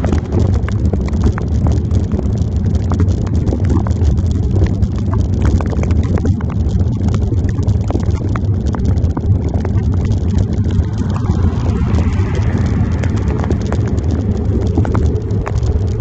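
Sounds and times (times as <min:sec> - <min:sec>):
bicycle road noise: 0:00.0 - 0:16.0
wind rumbling on microphone: 0:00.0 - 0:16.0.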